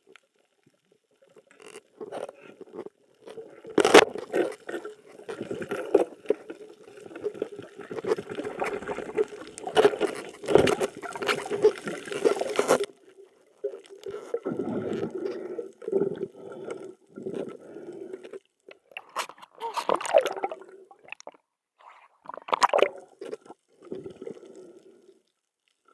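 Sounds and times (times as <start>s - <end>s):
underwater gurgling and bubbling: 3.4s - 25.0s.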